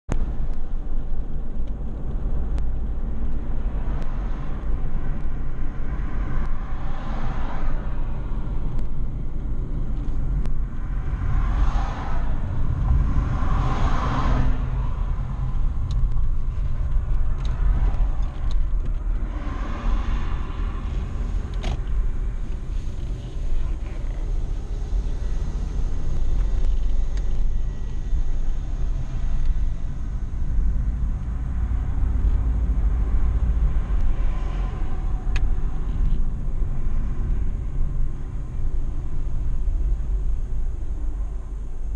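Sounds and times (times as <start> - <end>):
car engine and tyre rumble: 0.0 - 41.9.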